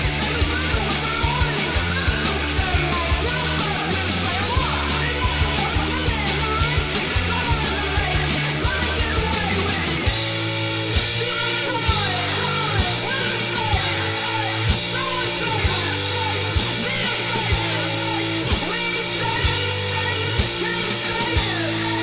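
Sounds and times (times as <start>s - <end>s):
person singing: 0.0s - 22.0s
punk rock band playing: 0.0s - 22.0s.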